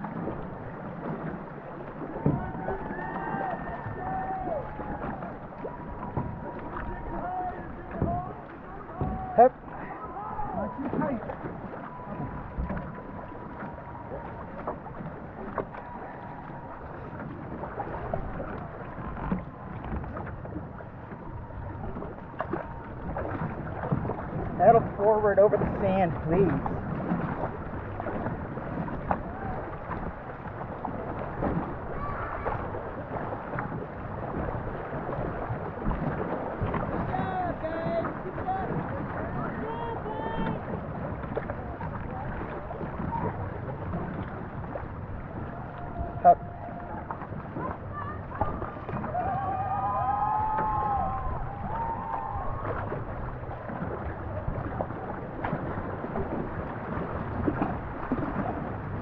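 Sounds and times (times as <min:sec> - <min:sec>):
faint paddle knocks: 0:00.0 - 0:31.8, 0:33.3 - 0:49.5
water rushing around canoe: 0:00.0 - 0:59.0
wind rumble on microphone: 0:00.0 - 0:59.0.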